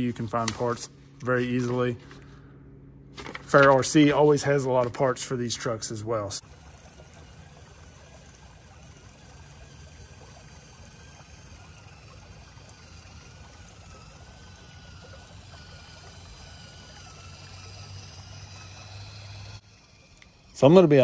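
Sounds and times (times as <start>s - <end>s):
low steady hum: 0.0s - 21.0s
faint water trickling: 3.3s - 21.0s.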